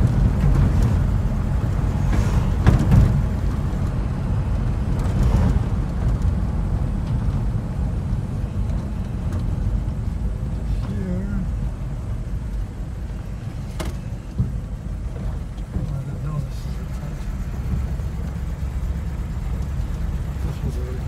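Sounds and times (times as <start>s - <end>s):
car engine and exhaust rumble: 0.0s - 21.0s
road noise: 0.0s - 21.0s.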